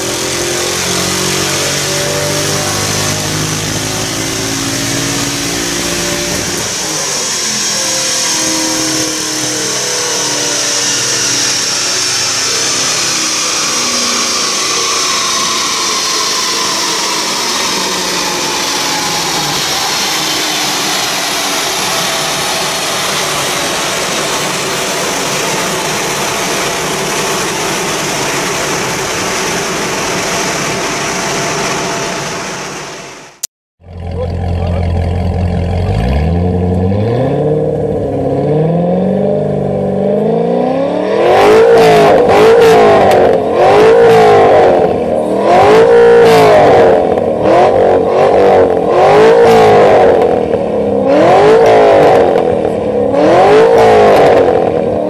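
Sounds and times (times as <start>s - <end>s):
car engine roaring on dynamometer: 0.0s - 55.0s
dyno rollers whining: 0.0s - 55.0s.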